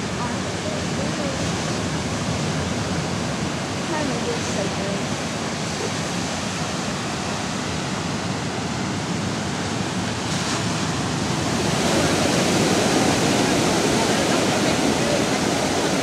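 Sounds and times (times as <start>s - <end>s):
ocean surf rushing: 0.0s - 16.0s
wind: 0.0s - 16.0s.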